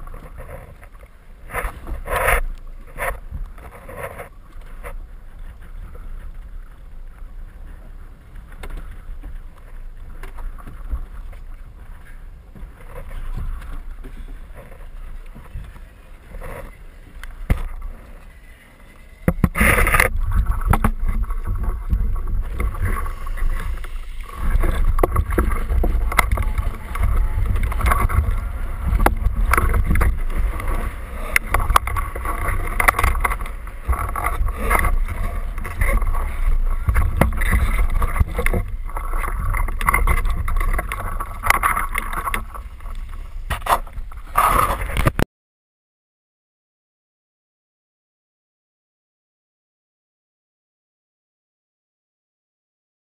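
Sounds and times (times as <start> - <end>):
wind and water buffeting camera: 0.0 - 45.2.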